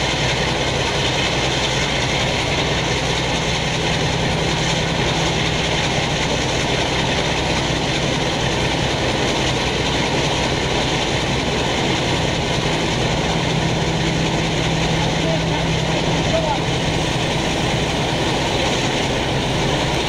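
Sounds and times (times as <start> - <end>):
diesel locomotive engine humming: 0.0 - 20.0.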